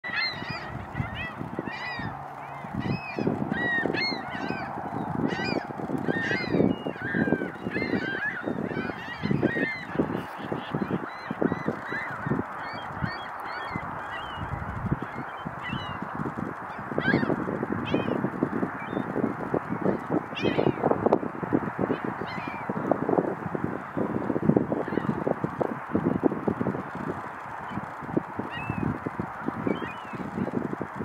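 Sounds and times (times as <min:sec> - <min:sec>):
choppy water: 0:00.0 - 0:31.0
wind: 0:00.0 - 0:31.0
wind buffeting microphone: 0:00.0 - 0:31.0.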